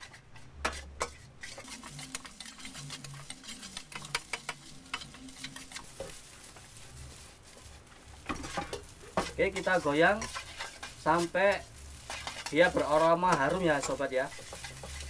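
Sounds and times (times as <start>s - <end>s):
metal spatula scraping wok: 0.0s - 15.0s
rice sizzling: 0.0s - 15.0s.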